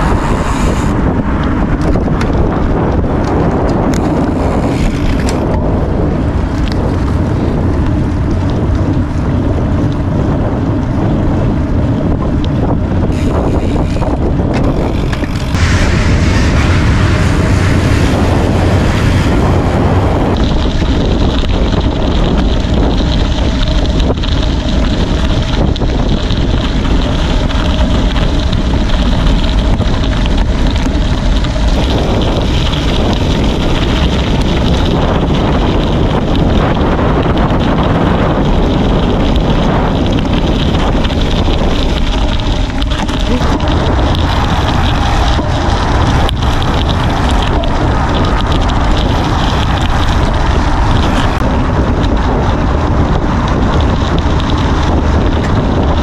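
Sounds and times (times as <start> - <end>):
low rumble: 0.0 - 56.0
wind rushing over microphone: 0.0 - 56.0.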